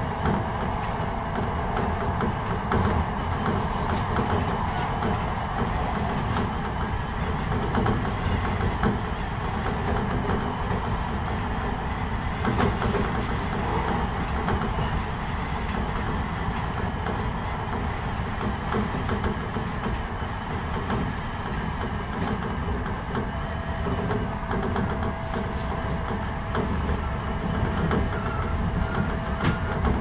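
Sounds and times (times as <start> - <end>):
rail joint clicks: 0.0 - 30.0
train wheels rumbling on rail: 0.0 - 30.0.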